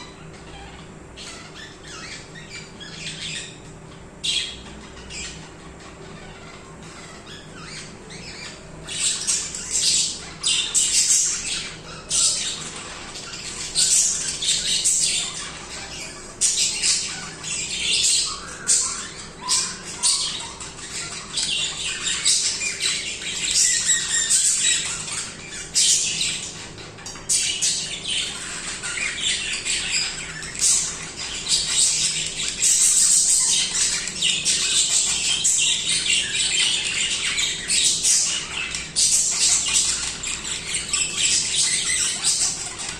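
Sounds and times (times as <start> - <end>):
budgerigars chirping and squawking: 0.0 - 42.9.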